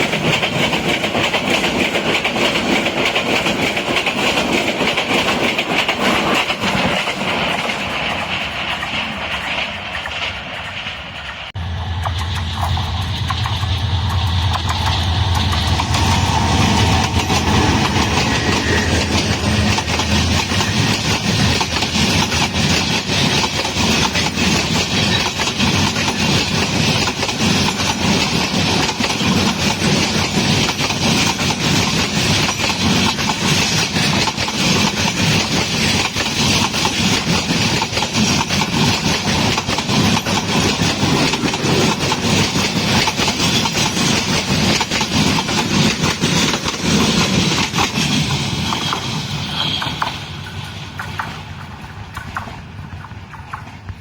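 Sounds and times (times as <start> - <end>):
train locomotive running: 0.0 - 54.0
wheels on rails: 0.0 - 54.0.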